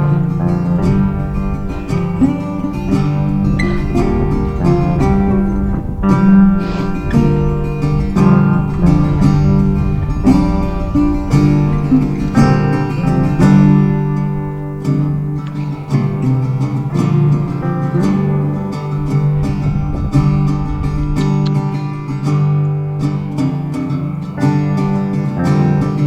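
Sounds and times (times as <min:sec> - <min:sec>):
acoustic guitar strummed and picked: 0:00.0 - 0:26.0.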